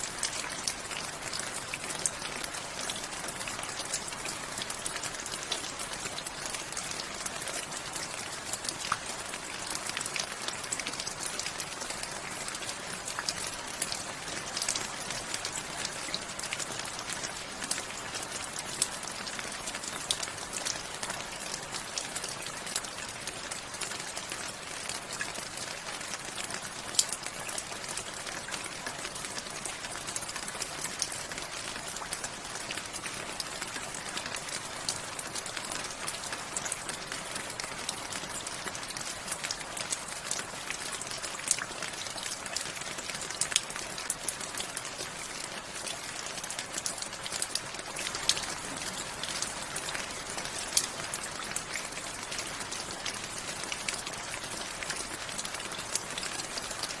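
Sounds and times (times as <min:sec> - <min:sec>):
rain on hard surface: 0:00.0 - 0:57.0.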